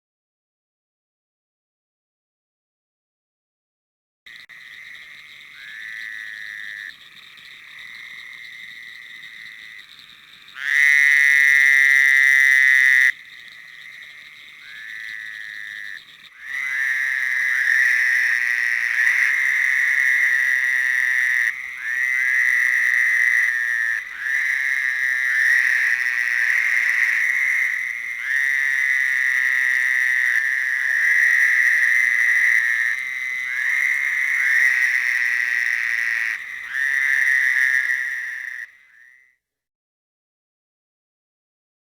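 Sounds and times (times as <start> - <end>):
frogs trilling: 4.3 - 39.4.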